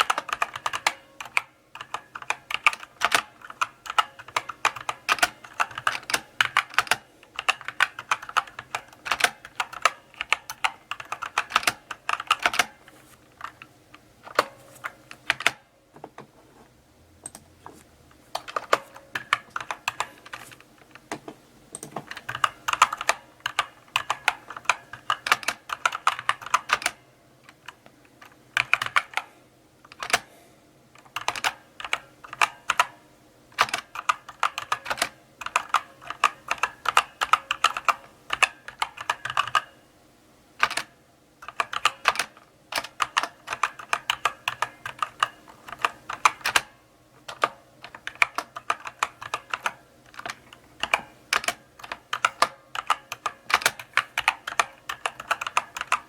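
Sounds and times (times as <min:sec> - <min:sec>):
mechanical keyboard clicks: 0:00.0 - 0:12.8, 0:13.4 - 0:15.6, 0:18.4 - 0:30.3, 0:31.0 - 0:39.7, 0:40.6 - 0:56.0.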